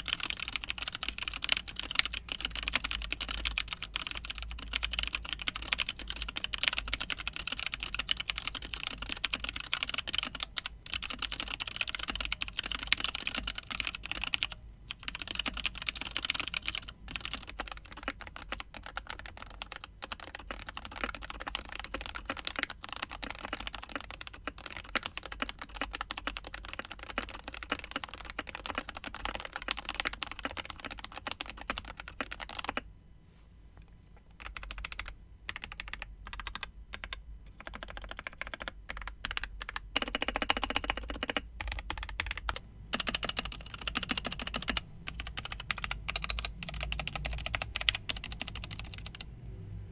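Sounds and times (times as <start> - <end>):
fast mechanical keyboard typing: 0.0 - 32.8, 34.3 - 49.3.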